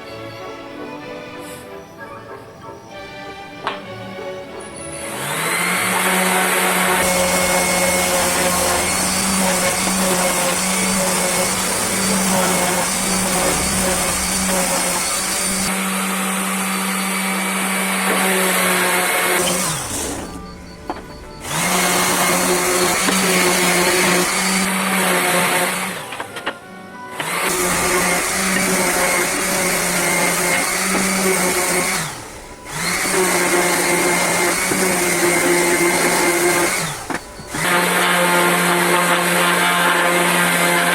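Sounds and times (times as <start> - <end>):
power tool motor running: 4.6 - 40.9.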